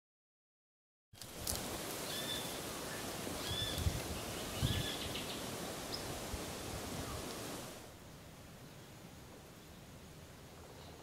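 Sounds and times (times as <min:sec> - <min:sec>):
outdoor hiss: 0:01.2 - 0:11.0.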